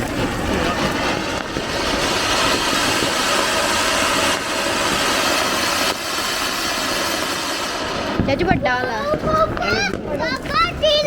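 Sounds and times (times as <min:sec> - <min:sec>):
ground firework hissing: 0:00.0 - 0:11.0.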